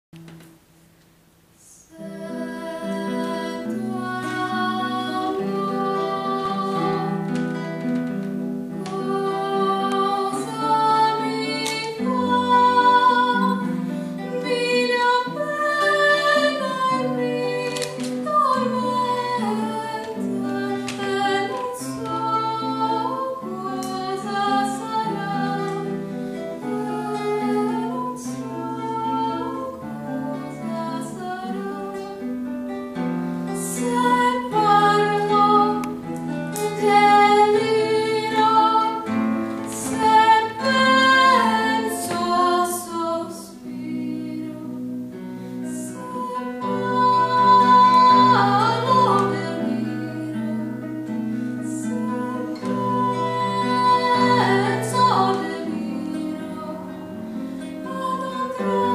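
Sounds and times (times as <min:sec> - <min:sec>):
girl singing: 0:01.6 - 0:32.4, 0:33.5 - 0:58.9
plucked acoustic guitar: 0:02.1 - 0:58.9.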